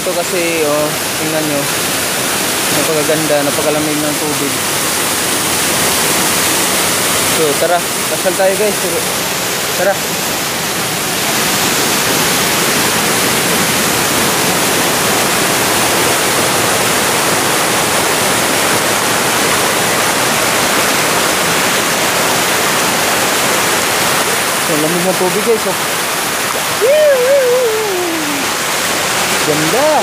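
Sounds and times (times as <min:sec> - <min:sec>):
waterfall rushing into a pool: 0:00.0 - 0:30.0.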